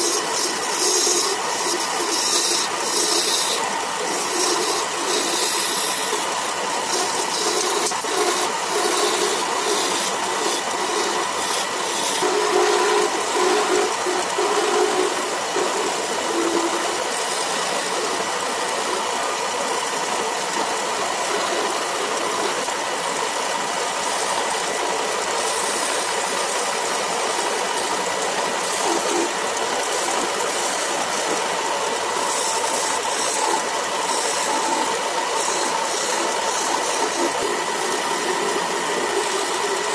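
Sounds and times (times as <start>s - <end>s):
hiss of tool cutting wood: 0.0s - 39.9s
wood lathe whirring: 0.0s - 39.9s.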